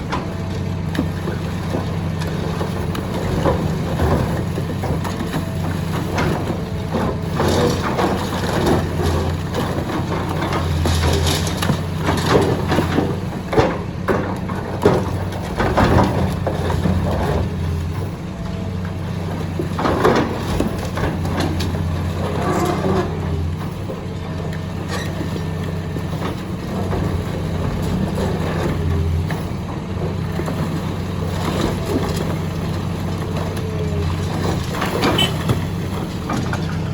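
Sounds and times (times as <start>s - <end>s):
concrete cracking and crunching: 0.0s - 36.9s
excavator diesel engine running: 0.0s - 36.9s.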